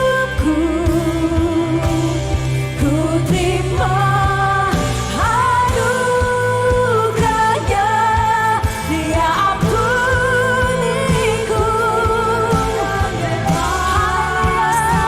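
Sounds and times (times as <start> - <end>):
band accompaniment: 0.0 - 15.0
person singing with vibrato: 0.0 - 15.0.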